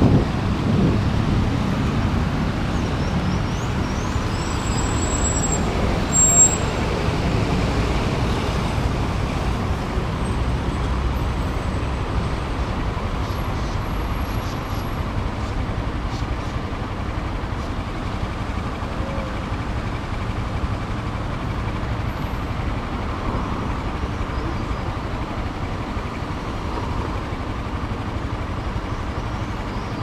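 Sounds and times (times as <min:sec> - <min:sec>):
motorcycle engine rumbling: 0:00.0 - 0:30.0
road and traffic noise: 0:00.0 - 0:30.0.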